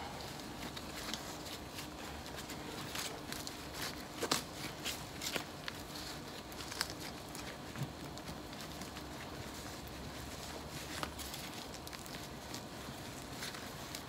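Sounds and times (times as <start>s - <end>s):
hands working potting soil: 0.0s - 14.0s.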